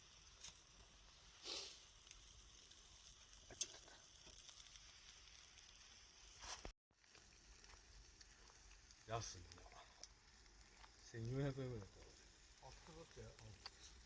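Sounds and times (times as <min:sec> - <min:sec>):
campfire burning and crackling: 0:00.0 - 0:14.0.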